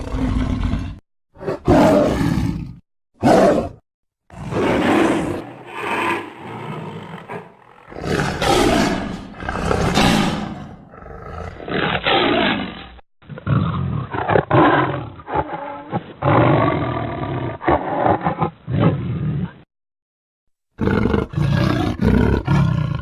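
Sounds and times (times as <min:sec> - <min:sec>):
big cat roars and snarls: 0:00.0 - 0:19.7, 0:20.8 - 0:23.0.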